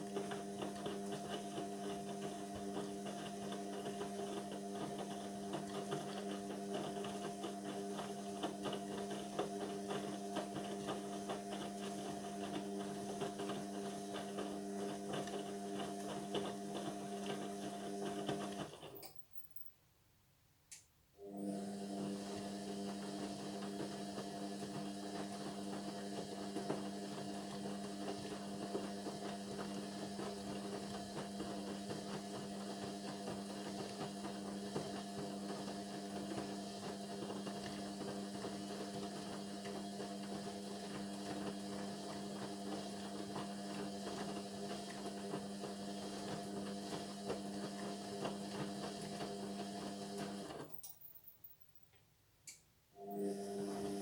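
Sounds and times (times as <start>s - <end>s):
washing machine motor hum: 0.0s - 19.7s, 21.2s - 51.4s, 53.0s - 54.0s.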